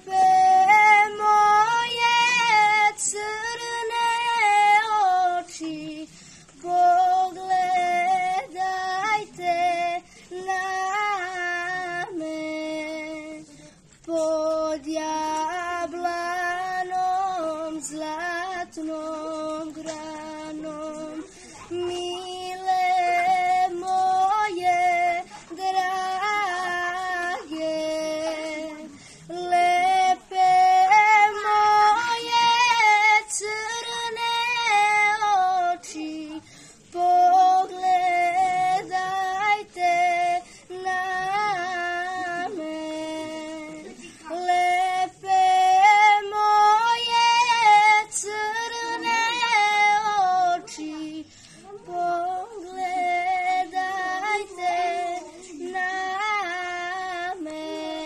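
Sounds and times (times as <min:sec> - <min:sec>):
girl singing unaccompanied: 0:00.0 - 0:58.0.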